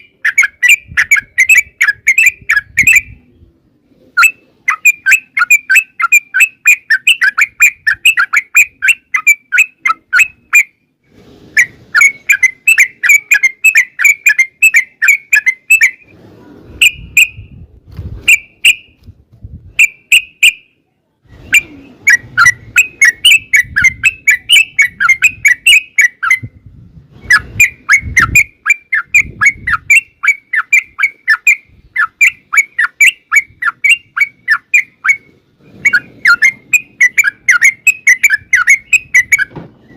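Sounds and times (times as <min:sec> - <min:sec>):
bird chattering song: 0:00.0 - 0:03.5, 0:04.2 - 0:10.8, 0:11.6 - 0:16.1, 0:19.8 - 0:20.7, 0:21.4 - 0:26.5, 0:27.2 - 0:39.9.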